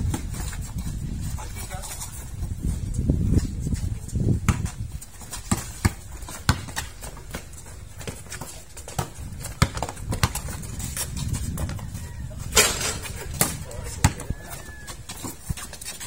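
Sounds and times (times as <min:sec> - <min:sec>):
basketball bouncing on concrete: 0:00.0 - 0:00.9, 0:02.0 - 0:16.0
players' footfalls: 0:00.0 - 0:16.0.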